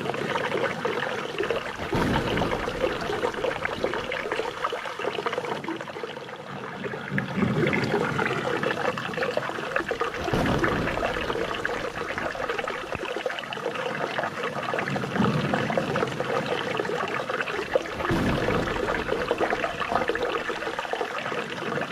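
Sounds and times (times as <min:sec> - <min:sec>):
water trickling and splashing: 0:00.0 - 0:21.9.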